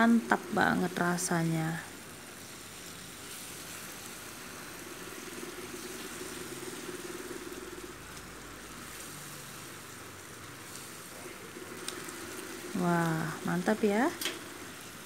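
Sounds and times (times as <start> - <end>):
sauce sizzling in oil: 0.0 - 15.0.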